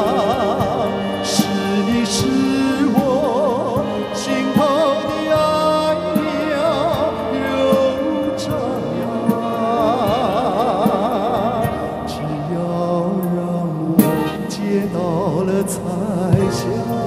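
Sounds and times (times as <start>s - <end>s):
band accompaniment: 0.0s - 17.0s
man singing slow love song: 0.0s - 17.0s.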